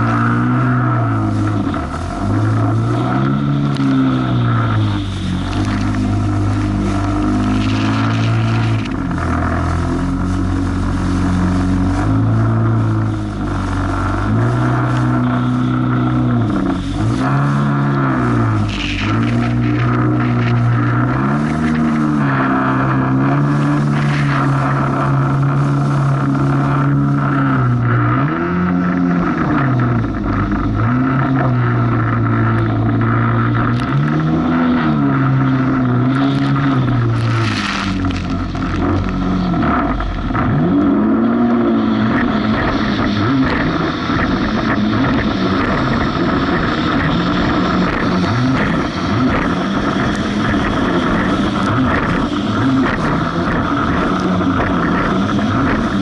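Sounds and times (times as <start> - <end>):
jet ski engine revving: 0.0 - 56.0
rough waves: 0.0 - 56.0.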